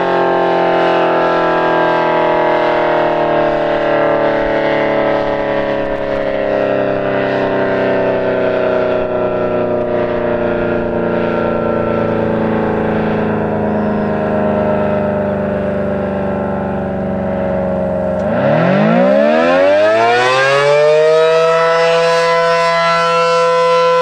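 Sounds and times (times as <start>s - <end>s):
warning siren sliding lower: 0.0s - 24.0s.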